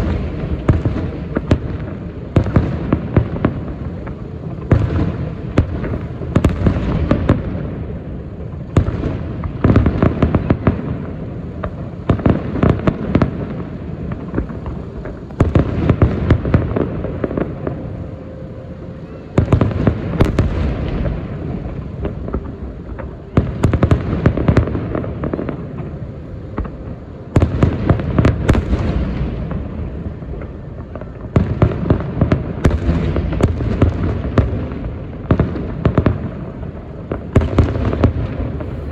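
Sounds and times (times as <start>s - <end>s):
fireworks bursting bangs and crackles: 0.0s - 38.9s.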